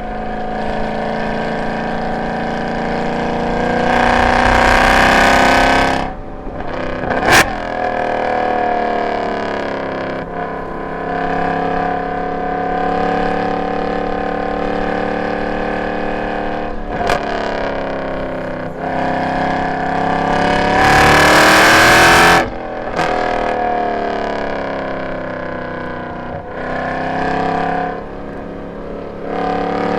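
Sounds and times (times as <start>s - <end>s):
car engine exhaust roar: 0.0s - 29.9s.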